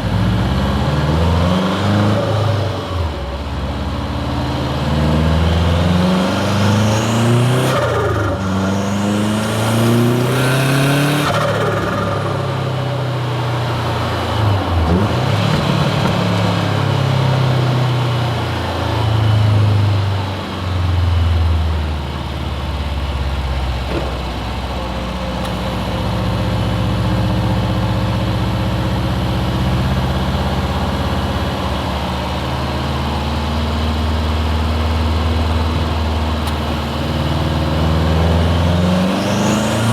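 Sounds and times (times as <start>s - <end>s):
car engine accelerating through gears: 0.0s - 22.4s, 23.8s - 39.9s.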